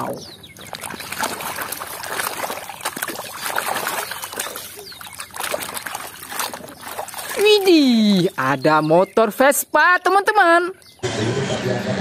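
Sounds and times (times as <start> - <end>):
water sloshing in basin: 0.0 - 9.9
water dripping: 0.0 - 11.0.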